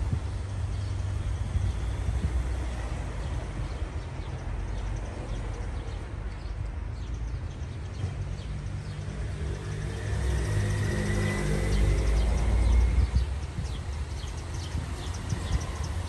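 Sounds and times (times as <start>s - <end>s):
low street rumble: 0.0s - 16.0s.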